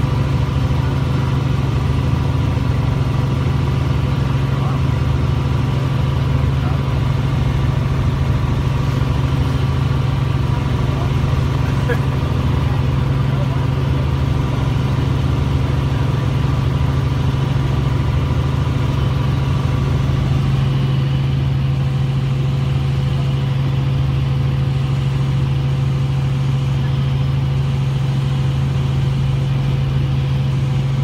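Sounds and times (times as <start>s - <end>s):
helicopter rotor and engine drone: 0.0s - 31.0s.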